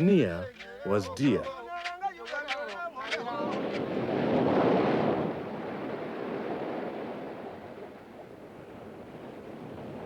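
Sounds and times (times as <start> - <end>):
ocean wave washing: 0.5 - 10.0.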